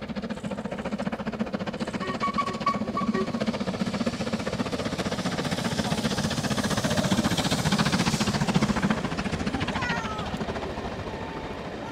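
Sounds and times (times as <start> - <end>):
steam train rumbling and throbbing: 0.0 - 11.9.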